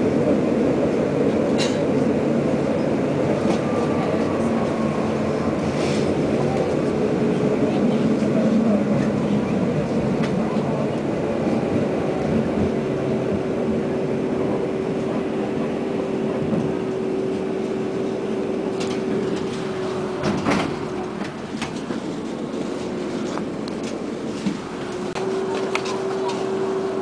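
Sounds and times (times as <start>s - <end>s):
steady whine: 0.0s - 27.0s
tram wheels rumbling: 0.0s - 27.0s.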